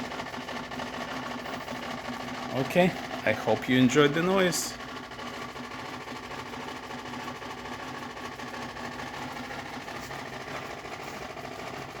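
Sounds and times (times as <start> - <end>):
refrigerator humming and whirring: 0.0 - 7.1, 9.0 - 12.0.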